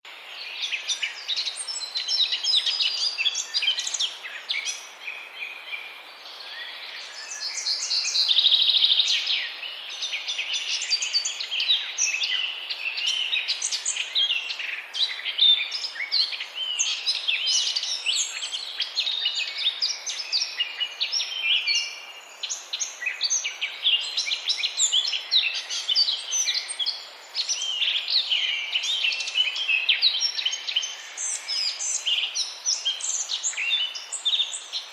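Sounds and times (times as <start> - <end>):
small birds chirping and singing: 0.0 - 34.9.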